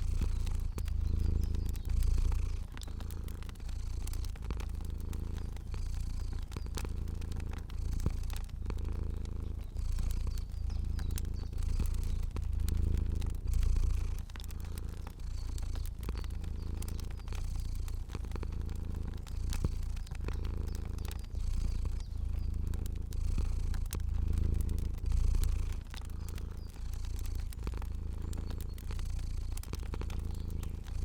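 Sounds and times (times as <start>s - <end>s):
cat purring: 0.0s - 31.0s
fire crackling: 0.0s - 31.0s.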